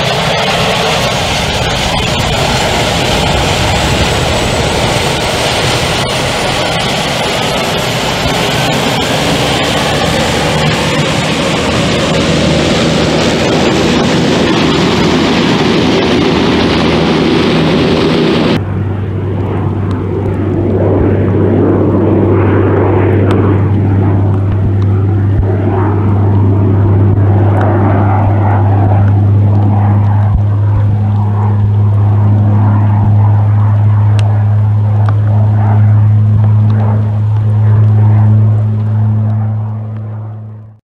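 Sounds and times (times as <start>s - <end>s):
propeller drone: 0.0s - 40.8s
turboprop engine rushing: 0.0s - 40.8s.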